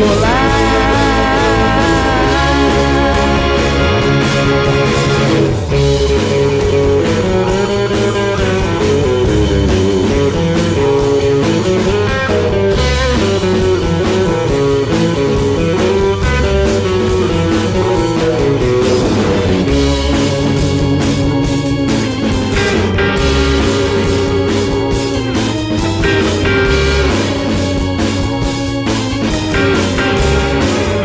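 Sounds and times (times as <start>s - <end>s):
bass guitar: 0.0s - 31.0s
electric guitar melody: 0.0s - 31.0s
steady drum beat: 0.0s - 31.0s.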